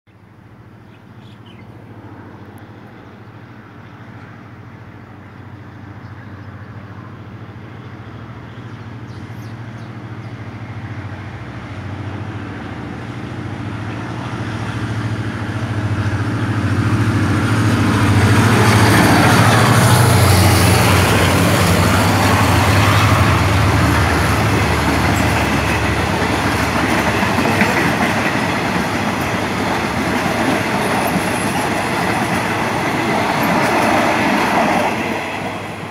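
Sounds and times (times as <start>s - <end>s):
locomotive engine drone: 1.8s - 35.9s.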